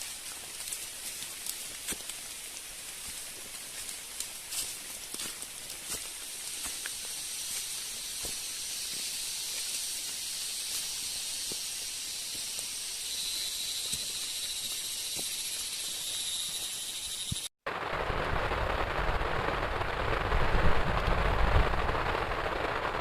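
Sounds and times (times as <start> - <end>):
high-pitched forest ambience hiss: 0.0 - 20.0.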